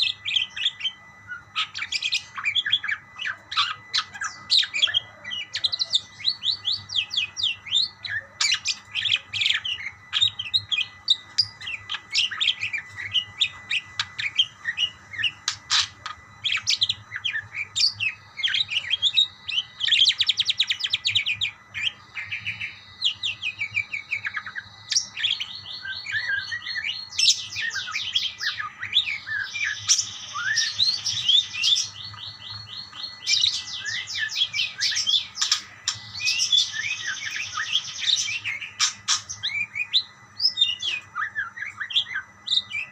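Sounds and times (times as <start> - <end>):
parakeets chirping and chattering: 0.0 - 42.9.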